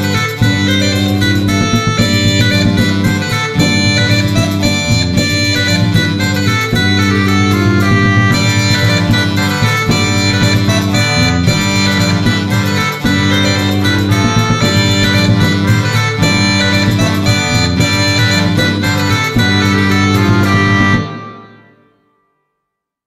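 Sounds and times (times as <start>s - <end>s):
plucked guitar music: 0.0s - 21.8s.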